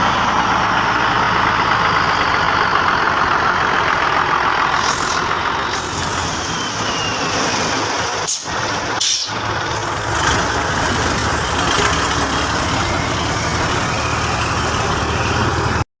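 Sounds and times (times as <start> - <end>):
truck engine running: 0.0 - 15.8.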